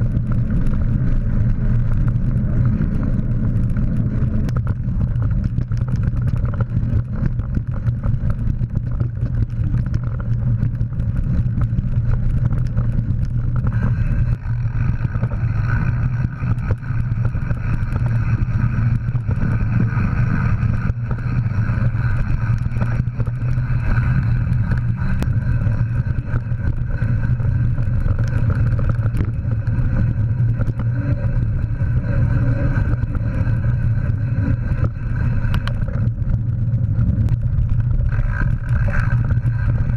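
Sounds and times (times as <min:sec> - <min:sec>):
bike rattling and clattering: 0:00.0 - 0:39.9
steady high hum: 0:00.0 - 0:39.9
wind and tyres rumbling: 0:00.0 - 0:39.9.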